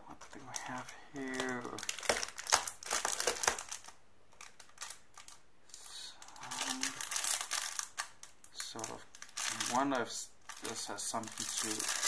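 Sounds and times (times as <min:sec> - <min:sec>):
plastic bag crinkling: 0:00.2 - 0:12.0.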